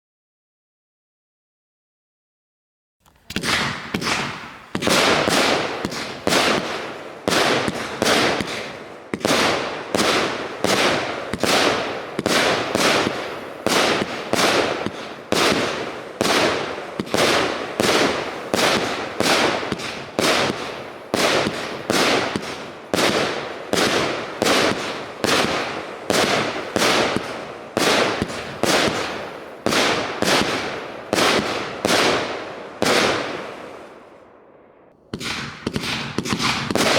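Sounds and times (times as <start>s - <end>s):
firework bangs: 3.1s - 34.2s, 35.1s - 36.9s.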